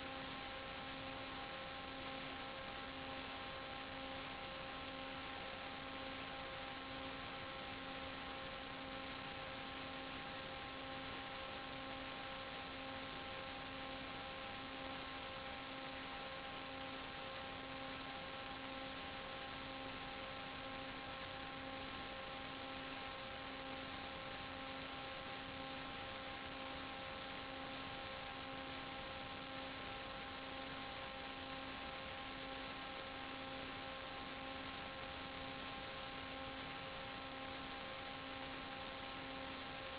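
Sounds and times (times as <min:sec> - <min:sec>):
electronic hiss: 0:00.0 - 0:39.9
hum of steady tones: 0:00.0 - 0:39.9.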